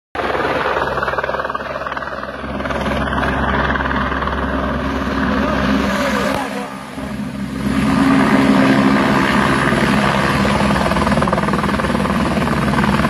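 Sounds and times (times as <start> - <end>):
helicopter rotor chopping: 0.2 - 13.0.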